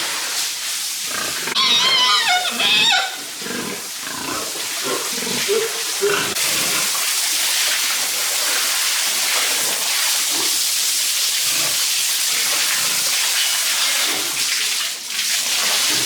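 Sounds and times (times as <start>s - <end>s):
water spraying hiss: 0.0s - 16.0s.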